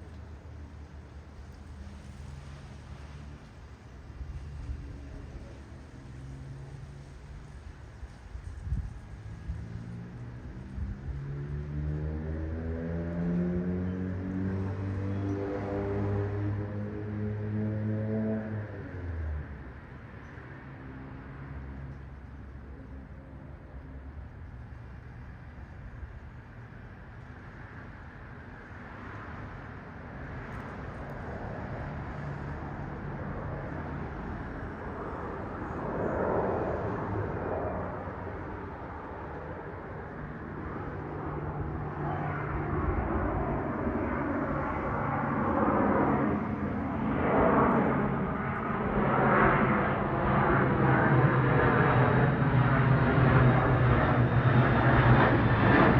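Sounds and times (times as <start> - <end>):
airplane engine roar: 0.0 - 55.9.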